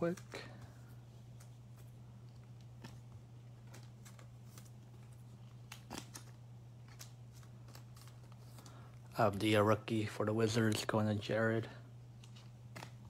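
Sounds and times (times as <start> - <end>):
plastic sleeves rustling: 0.0 - 9.8, 12.1 - 13.0
steady low hum: 0.0 - 13.0.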